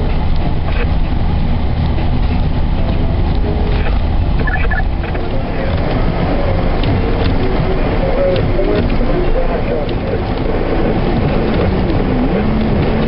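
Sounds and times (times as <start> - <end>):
truck engine low rumble: 0.0 - 13.0.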